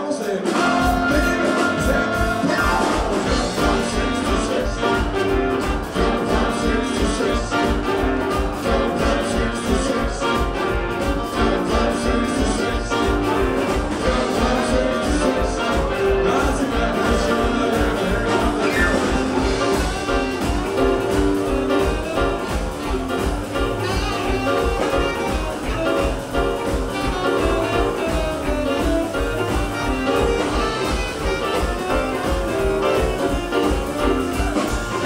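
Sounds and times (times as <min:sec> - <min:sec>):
jazz blues band playing: 0:00.1 - 0:35.0.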